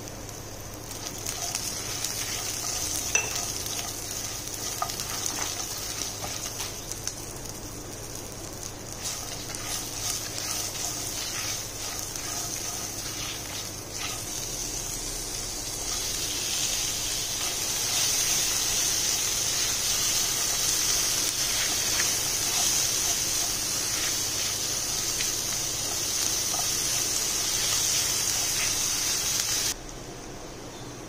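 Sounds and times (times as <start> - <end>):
tomatoes sizzling in hot oil: 0.0 - 29.8.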